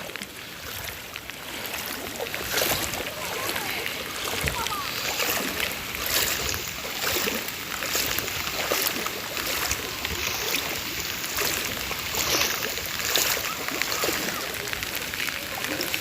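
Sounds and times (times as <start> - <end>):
floodwater splashing: 0.0 - 16.0
rushing water: 0.0 - 16.0.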